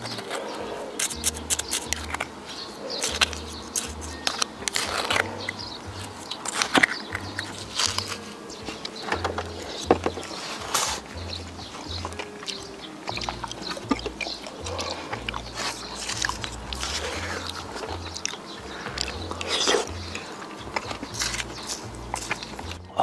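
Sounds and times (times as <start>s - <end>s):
person chewing with smacks: 0.0s - 22.9s.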